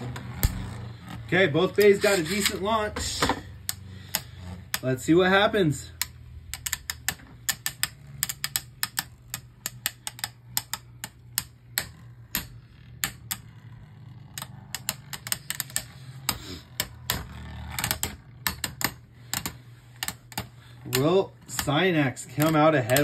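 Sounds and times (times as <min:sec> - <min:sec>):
spinning tops grinding: 0:00.0 - 0:23.0.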